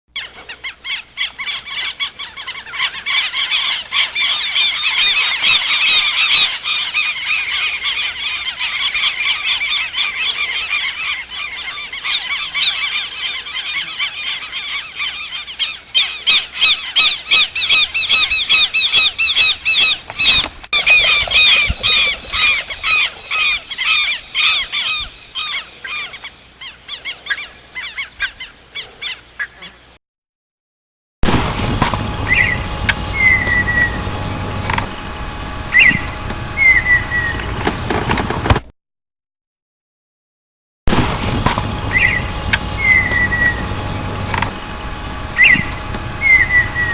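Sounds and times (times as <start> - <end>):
birds honking calls: 0.2 - 29.9, 31.2 - 38.6, 40.9 - 46.9.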